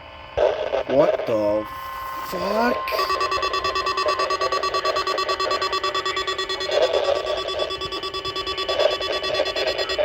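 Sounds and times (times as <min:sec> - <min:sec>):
pulsing electronic alarm tones: 0:01.0 - 0:10.0.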